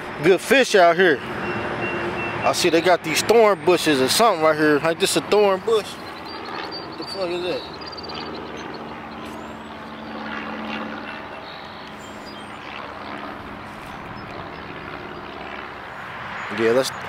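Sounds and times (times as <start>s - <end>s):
highway traffic drone: 0.0s - 17.0s
passing truck engine hum: 0.8s - 17.0s.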